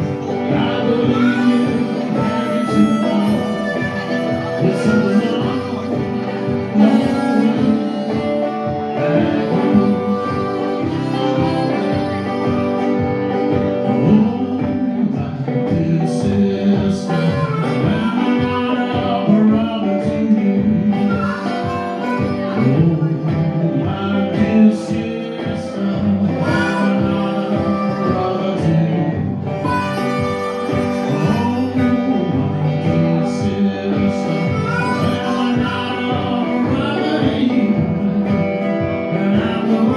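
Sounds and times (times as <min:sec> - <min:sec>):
blues band playing: 0:00.0 - 0:39.9
electric guitar: 0:00.0 - 0:39.9
steady drum beat: 0:00.0 - 0:39.9.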